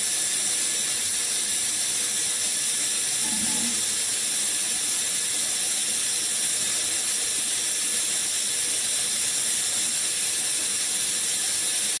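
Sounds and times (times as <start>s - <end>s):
machine hiss: 0.0s - 12.0s.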